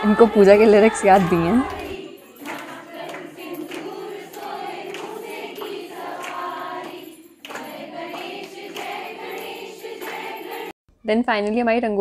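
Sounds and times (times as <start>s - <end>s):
group singing in unison: 0.0s - 10.8s.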